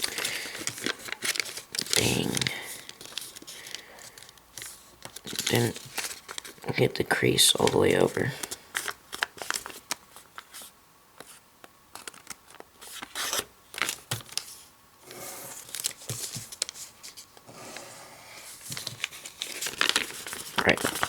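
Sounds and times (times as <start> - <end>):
paper crackling and rustling: 0.0 - 21.0.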